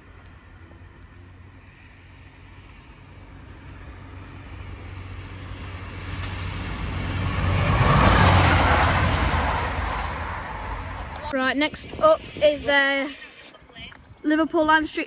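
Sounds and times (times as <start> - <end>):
train passing at speed: 0.0 - 13.6.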